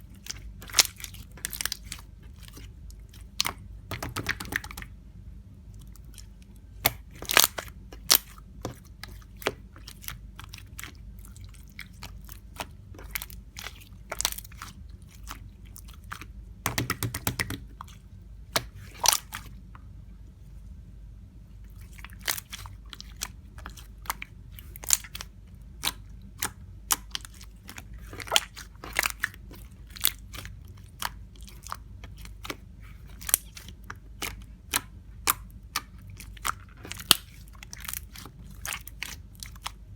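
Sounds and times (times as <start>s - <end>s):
slime squishing with clicks: 0.0s - 20.3s, 21.6s - 39.9s.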